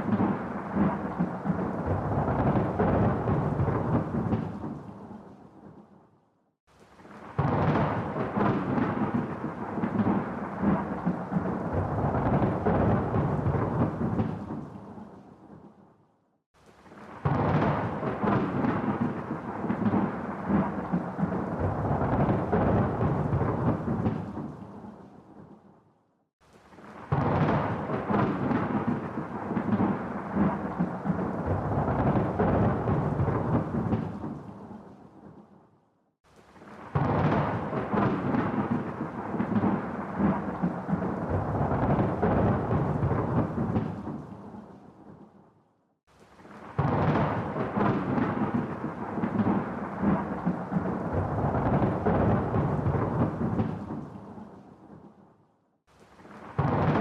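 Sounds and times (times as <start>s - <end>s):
rolling thunder: 0.0s - 5.8s, 7.2s - 15.7s, 16.8s - 25.6s, 26.9s - 35.4s, 36.6s - 45.2s, 46.5s - 55.1s, 56.3s - 57.0s.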